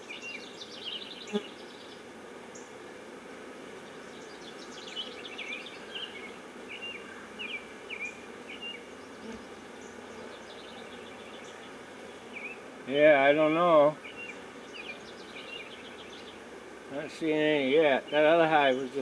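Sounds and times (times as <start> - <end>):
bird chirping: 0.0 - 2.0, 3.9 - 19.0
honeybees humming: 0.0 - 19.0.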